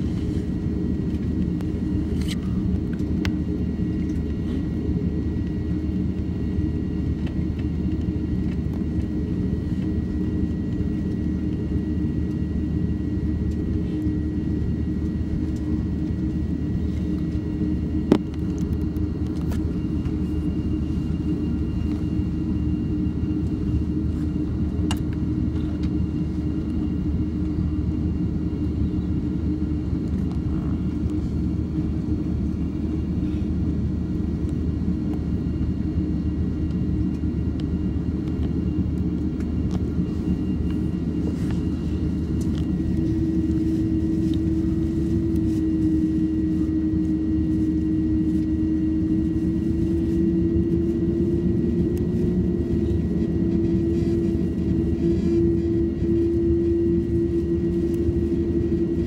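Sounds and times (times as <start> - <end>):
airplane engine rumble in cabin: 0.0 - 59.0.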